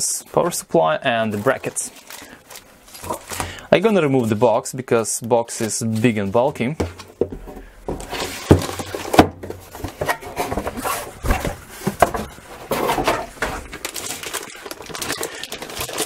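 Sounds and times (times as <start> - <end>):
cardboard and plastic rustling: 0.3 - 4.5, 5.6 - 16.0.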